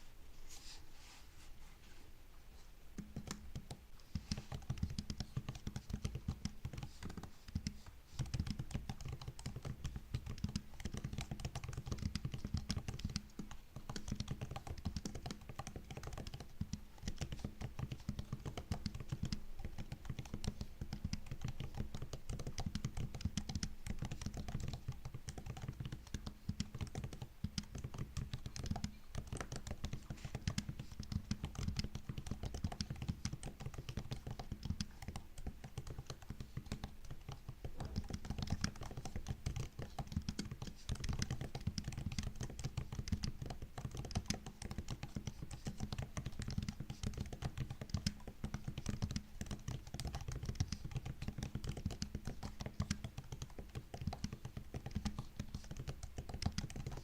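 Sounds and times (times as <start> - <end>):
fast typing on laptop keyboard: 3.0 - 57.0.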